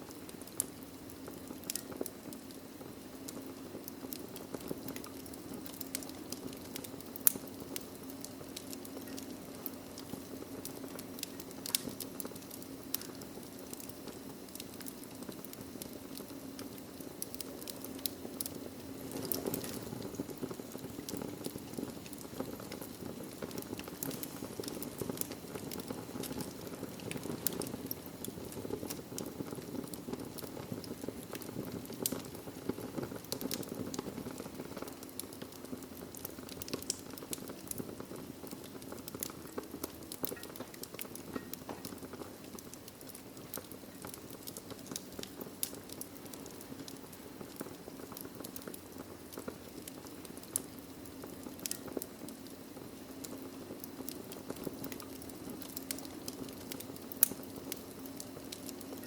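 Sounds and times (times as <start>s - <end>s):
fire burning in fireplace: 0.0s - 59.0s
fire crackles and pops: 0.0s - 59.0s.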